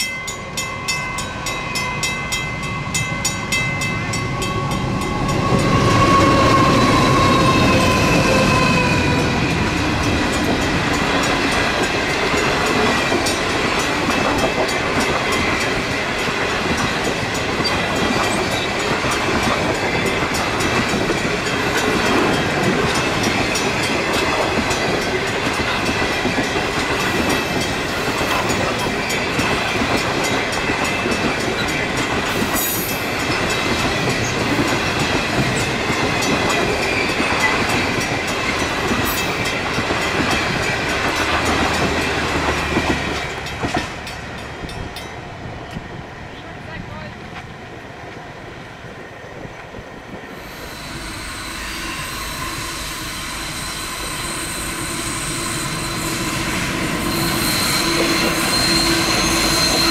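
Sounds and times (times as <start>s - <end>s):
train wheels clickety-clack: 3.2s - 48.2s, 49.3s - 59.9s.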